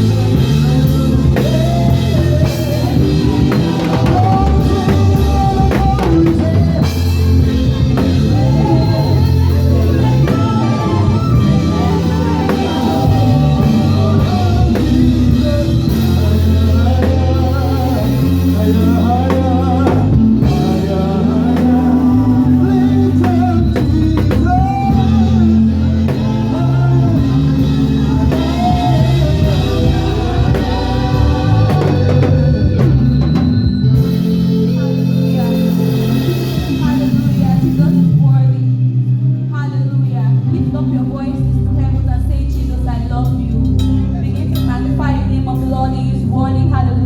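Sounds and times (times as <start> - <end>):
drum kit: 0.0 - 39.5
heavy held bass notes: 0.0 - 47.0
worship band playing: 0.0 - 47.0.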